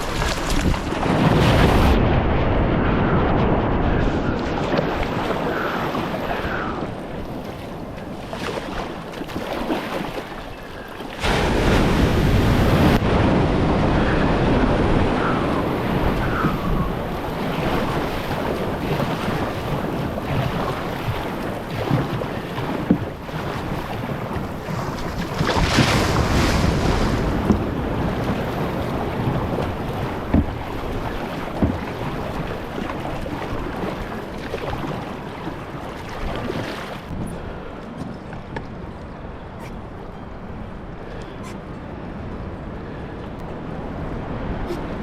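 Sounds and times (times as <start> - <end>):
ocean surf breaking on beach: 0.0 - 38.0
wind buffeting microphone: 0.0 - 45.0.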